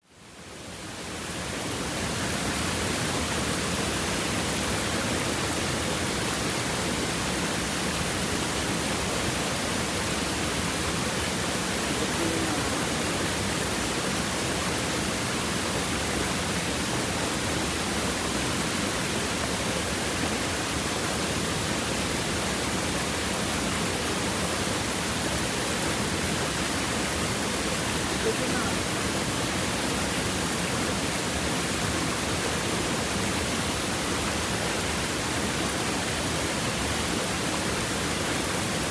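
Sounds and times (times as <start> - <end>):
stream babbling over stones: 2.0 - 38.9.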